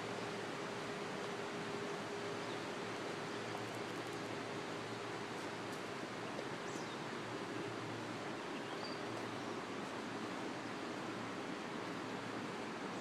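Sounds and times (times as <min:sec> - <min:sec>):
flowing floodwater: 0:00.0 - 0:13.0
rain: 0:00.0 - 0:13.0.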